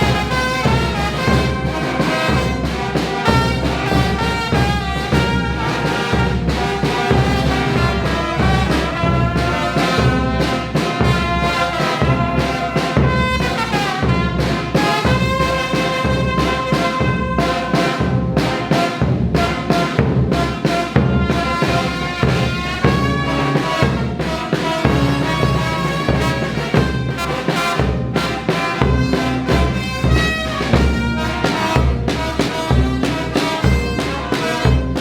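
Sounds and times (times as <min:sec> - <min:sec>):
brass band playing: 0:00.0 - 0:35.0.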